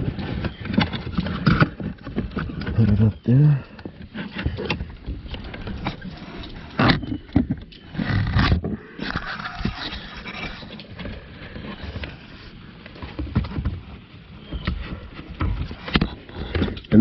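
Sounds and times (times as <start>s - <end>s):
plastic scraping and knocking: 0.0s - 17.0s.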